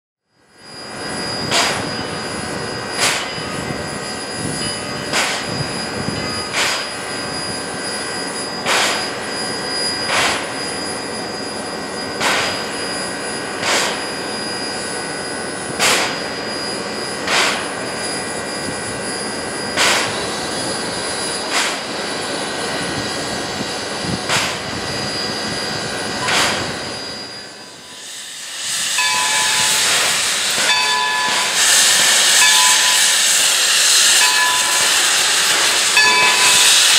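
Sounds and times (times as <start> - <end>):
steam locomotive high whine: 0.2 - 36.9
steam hissing from cylinder cocks: 1.4 - 15.0, 15.6 - 19.0, 19.6 - 36.9.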